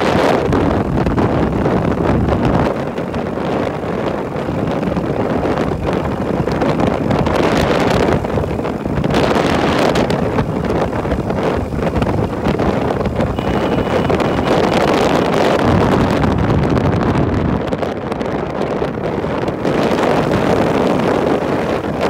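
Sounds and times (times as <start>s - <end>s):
low rumble of bike ride: 0.0s - 22.0s
wind buffeting microphone: 0.0s - 22.0s.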